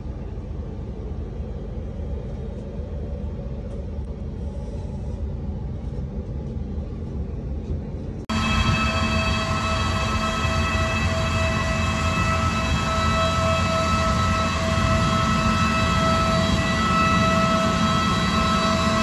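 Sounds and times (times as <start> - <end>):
aircraft whine: 0.0 - 19.0
airliner low rumble: 0.0 - 19.0.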